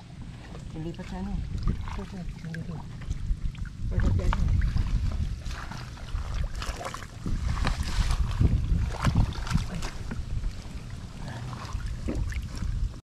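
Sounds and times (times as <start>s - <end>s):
pond water sloshing and splashing: 0.0s - 13.0s
wind rumbling on microphone: 0.0s - 13.0s.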